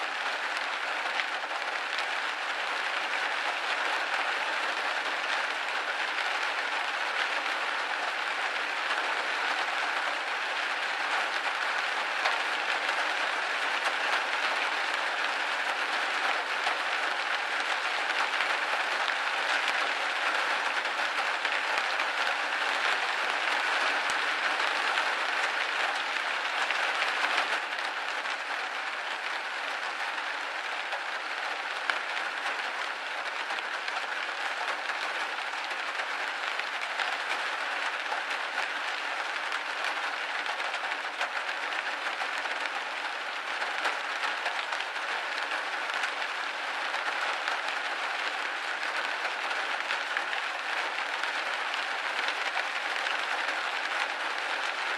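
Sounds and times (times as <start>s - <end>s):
rain pattering on window: 0.0s - 54.9s.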